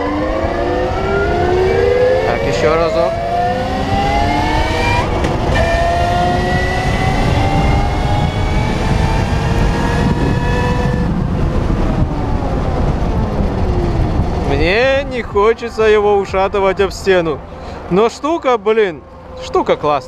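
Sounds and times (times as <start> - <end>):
wind rushing over microphone: 0.0 - 18.1.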